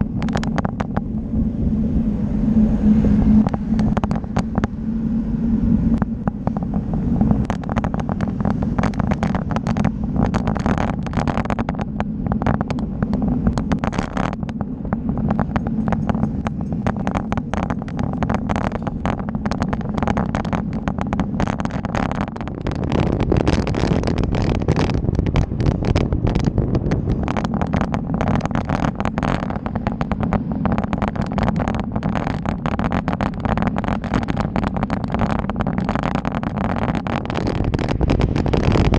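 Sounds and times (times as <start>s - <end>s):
constant crackling: 0.0s - 38.9s
low rumble of travel: 0.0s - 38.9s
wind buffeting microphone: 0.0s - 38.9s.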